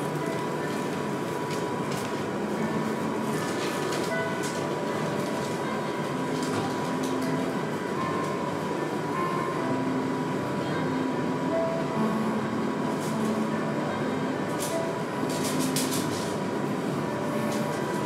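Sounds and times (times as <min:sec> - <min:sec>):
low rumbling room noise: 0:00.0 - 0:18.0.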